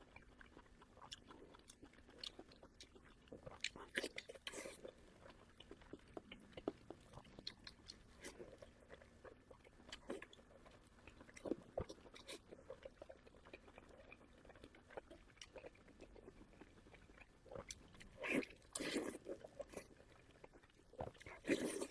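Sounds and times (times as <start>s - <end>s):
close chewing and mouth clicks: 0.0s - 21.9s.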